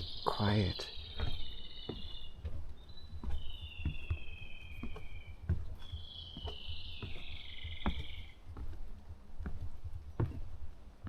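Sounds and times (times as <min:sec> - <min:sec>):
footsteps on forest path: 0:00.0 - 0:11.0.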